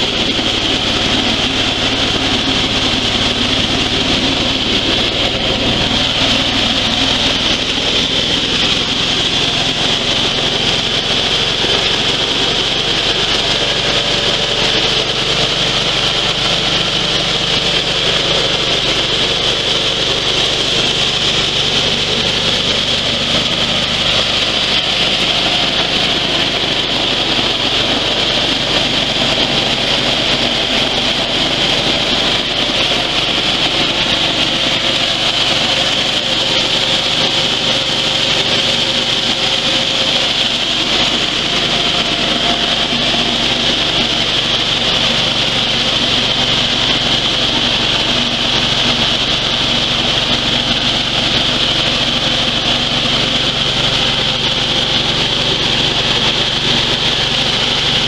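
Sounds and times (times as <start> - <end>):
coffee huller machine drone: 0.0 - 58.0.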